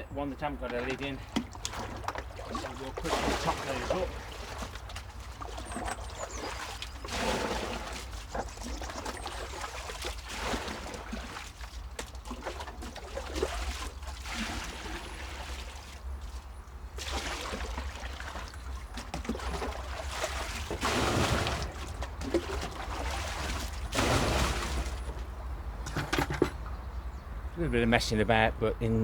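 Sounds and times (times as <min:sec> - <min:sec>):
water pouring into a container: 0:00.5 - 0:25.4.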